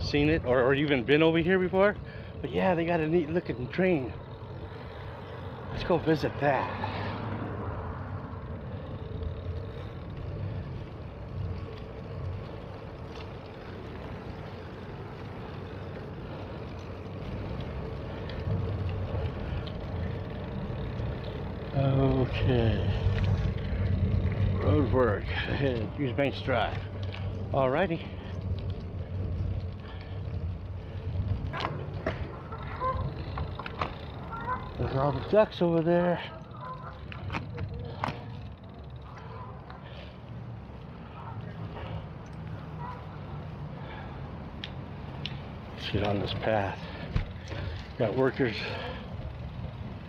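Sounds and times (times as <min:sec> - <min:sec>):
bicycle riding rumble: 0:00.0 - 0:50.0.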